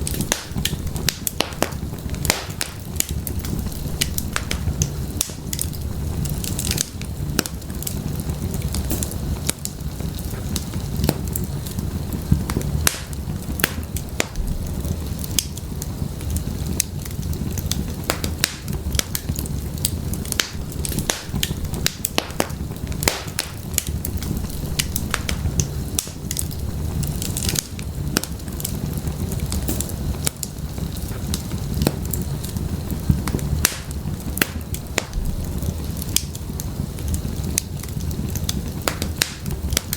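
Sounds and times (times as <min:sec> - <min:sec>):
fire popping and snapping: 0:00.0 - 0:39.9
low roar of flames: 0:00.0 - 0:39.9.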